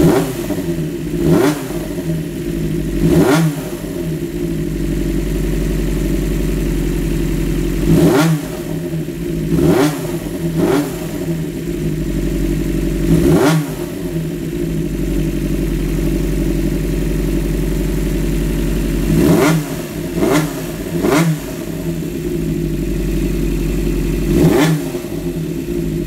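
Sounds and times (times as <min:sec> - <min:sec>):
motorcycle engine idling: 0:00.0 - 0:26.0
motorcycle engine revving: 0:00.0 - 0:26.0.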